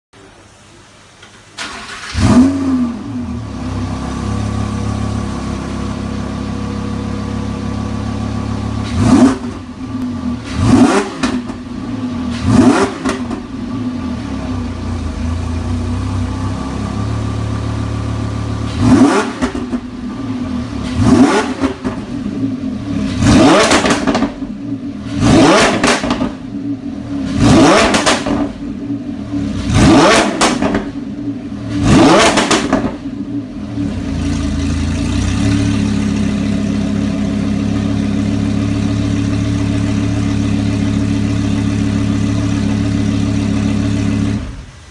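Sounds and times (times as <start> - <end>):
car engine idling: 0.2 - 44.9
sports car engine revving: 1.9 - 44.9.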